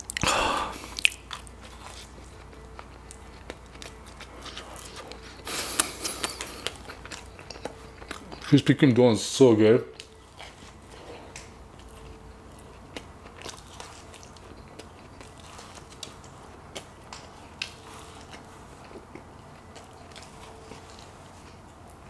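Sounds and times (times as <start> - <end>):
chewing mouth sounds: 0.0 - 8.9, 10.0 - 22.0.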